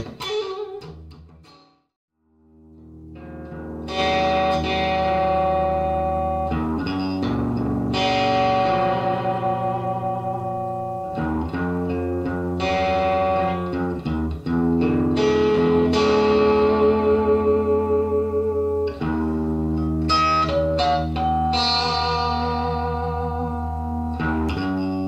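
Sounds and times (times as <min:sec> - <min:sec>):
electric guitar chords: 0:00.0 - 0:01.6, 0:02.2 - 0:25.0
electric guitar single notes: 0:02.5 - 0:25.0.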